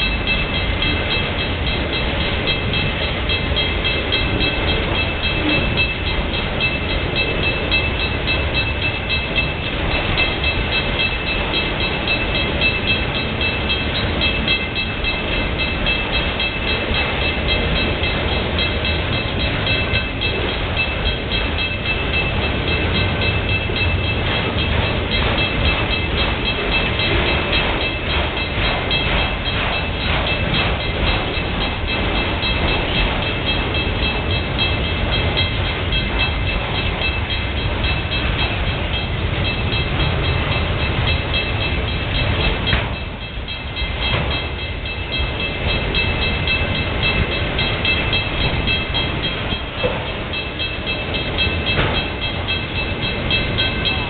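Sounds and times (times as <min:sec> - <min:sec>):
crossing bell ringing: 0:00.0 - 0:54.0
train wheels rumbling on rail: 0:00.0 - 0:54.0
wheel clacks over rail joints: 0:00.0 - 0:54.0.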